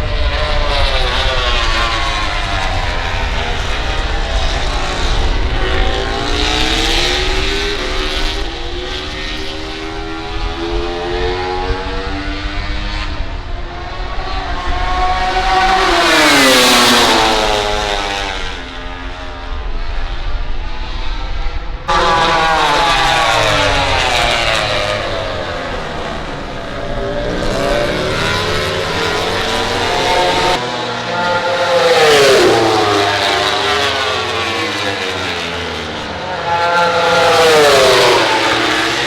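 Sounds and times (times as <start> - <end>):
motorcycle passing close: 0.0 - 39.0
racing motorcycles at high revs: 0.0 - 39.0.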